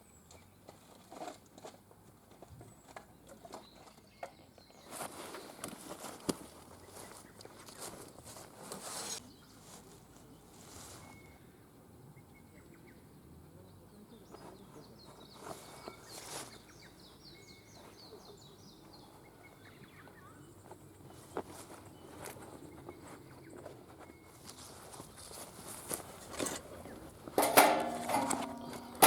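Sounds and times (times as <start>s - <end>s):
small birds chirping: 2.5s - 25.9s.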